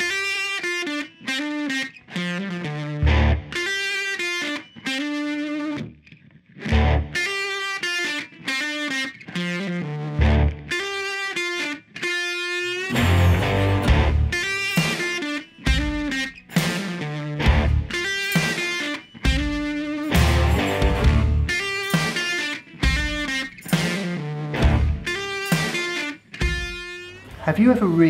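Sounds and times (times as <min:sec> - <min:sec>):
distorted guitar chords: 0:00.0 - 0:28.0.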